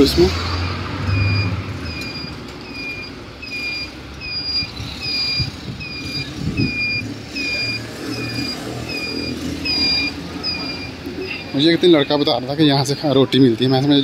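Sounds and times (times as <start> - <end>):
pedestrian crossing signal beeping: 0.0 - 12.4
road traffic rumble: 0.0 - 14.0.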